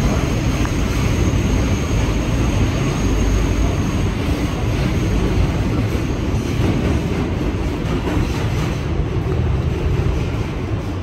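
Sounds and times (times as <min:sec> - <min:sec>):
subway car body rattling: 0:00.0 - 0:11.0
wheels rumbling on rail: 0:00.0 - 0:11.0.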